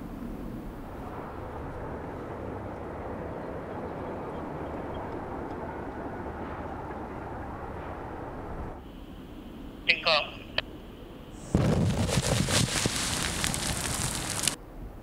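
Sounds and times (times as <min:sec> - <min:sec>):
construction area rumble: 0:00.9 - 0:14.6.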